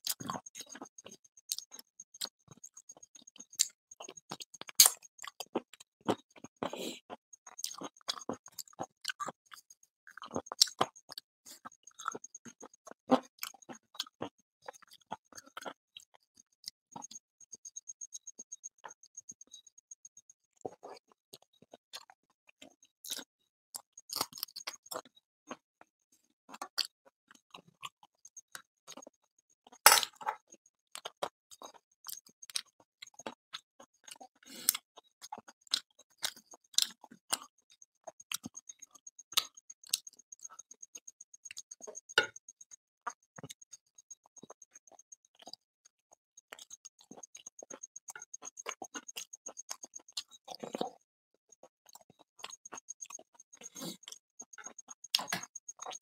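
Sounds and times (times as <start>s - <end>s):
man chewing food: 0.0s - 56.0s.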